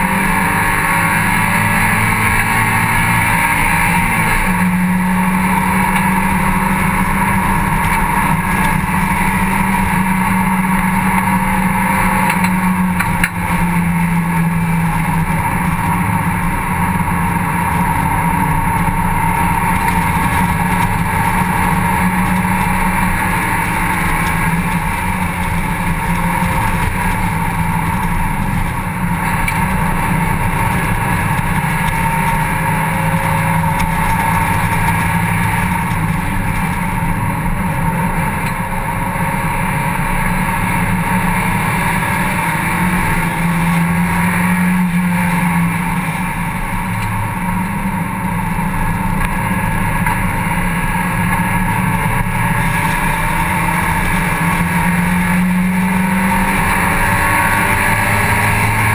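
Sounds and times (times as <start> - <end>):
race car engine droning: 0.0 - 58.9.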